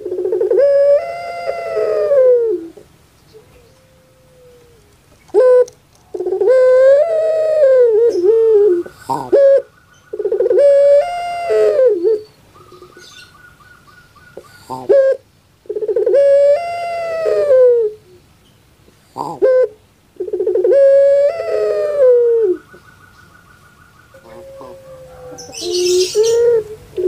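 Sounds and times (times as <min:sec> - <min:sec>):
dove cooing: 0:00.0 - 0:18.3, 0:18.9 - 0:27.0.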